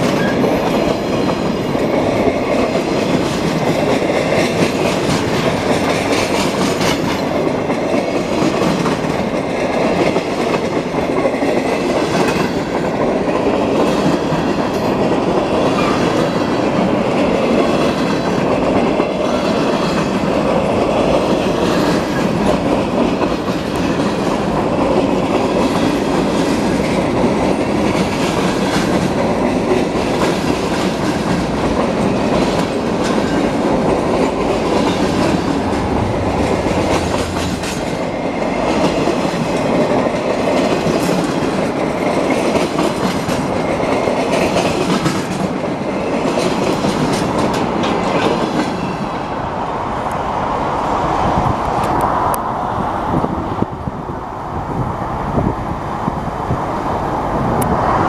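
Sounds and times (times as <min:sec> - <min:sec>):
wheels clacking over rail joints: 0:00.0 - 0:49.3
freight train rumbling past: 0:00.0 - 0:58.0.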